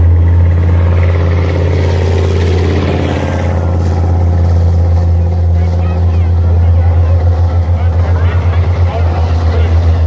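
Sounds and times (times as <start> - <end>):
tracked vehicle diesel engine: 0.0 - 10.0.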